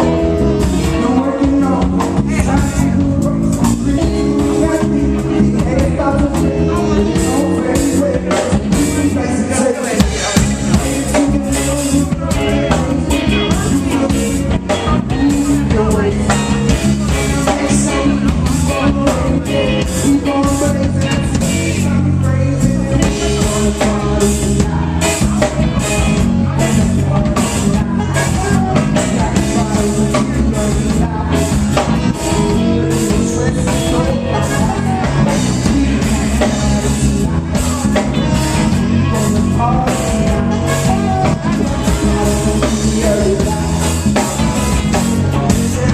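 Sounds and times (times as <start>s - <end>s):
person singing: 0.0s - 45.9s
reggae band playing live: 0.0s - 45.9s.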